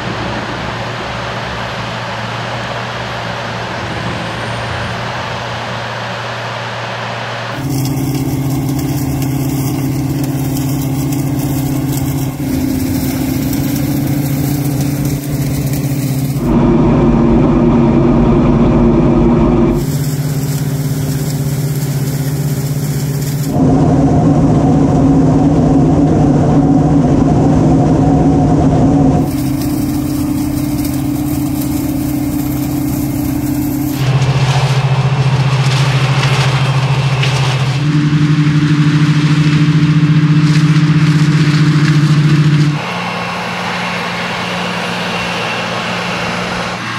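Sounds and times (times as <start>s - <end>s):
harvester engine drone: 0.0s - 46.9s.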